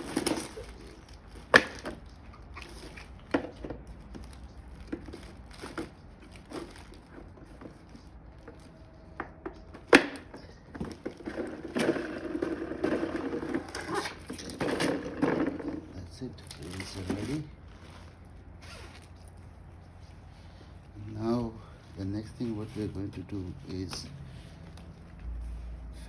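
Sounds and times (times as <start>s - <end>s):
handling noise: 0.0s - 26.0s.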